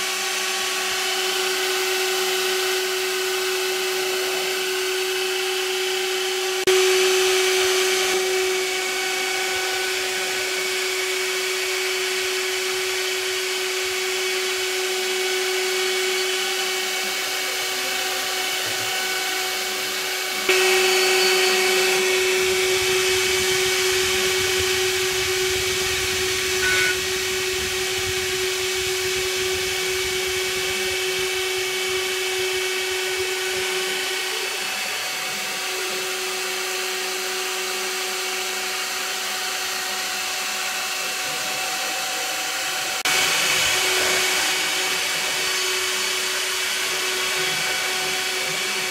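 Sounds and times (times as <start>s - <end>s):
router bit milling wood: 0.0s - 48.9s
router spindle whine: 0.0s - 48.9s.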